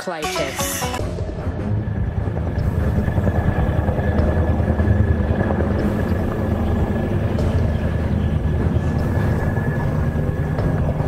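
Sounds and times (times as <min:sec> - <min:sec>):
turbine whine: 0:00.8 - 0:11.0
helicopter rotor chop: 0:01.0 - 0:11.0.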